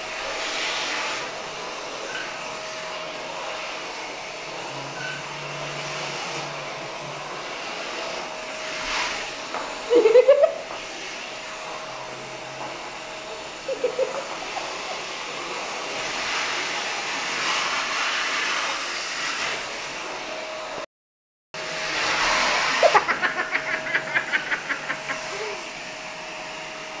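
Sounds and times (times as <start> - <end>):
vacuum cleaner whining: 0.0 - 20.9, 21.6 - 27.0.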